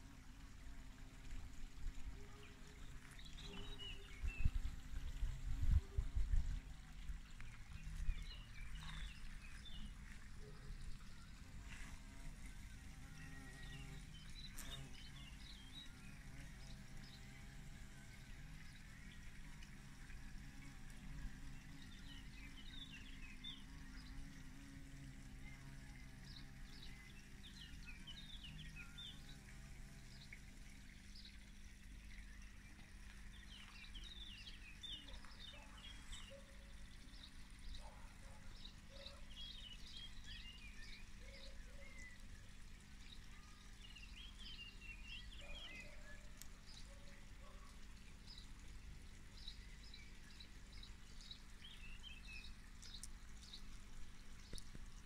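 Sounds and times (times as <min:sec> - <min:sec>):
low steady hum: 0:00.0 - 0:55.0
small birds chirping: 0:01.9 - 0:17.4, 0:21.6 - 0:55.0.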